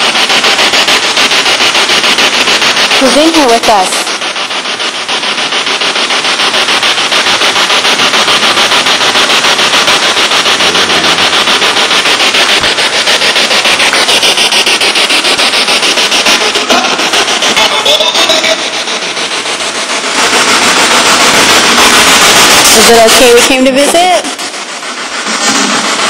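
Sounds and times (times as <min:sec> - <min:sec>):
chopped radio static bursts: 0:00.0 - 0:24.6.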